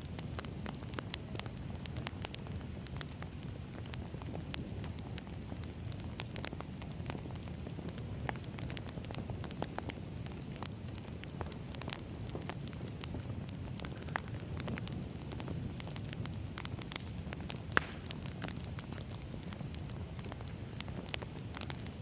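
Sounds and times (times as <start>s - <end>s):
fire low rumble: 0.0s - 22.0s
logs crackling and popping: 0.0s - 22.0s.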